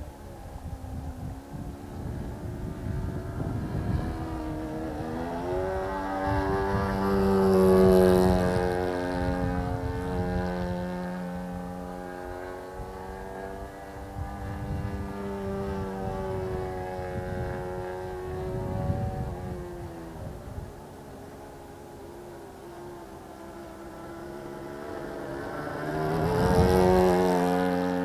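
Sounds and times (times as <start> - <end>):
model plane engine and propeller: 0.0 - 28.0
wind buffeting microphone: 0.0 - 28.0.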